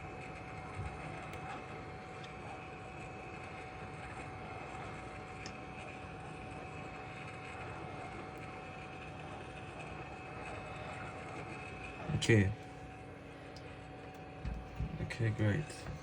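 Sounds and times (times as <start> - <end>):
hot air blowing with whine: 0.0 - 16.0.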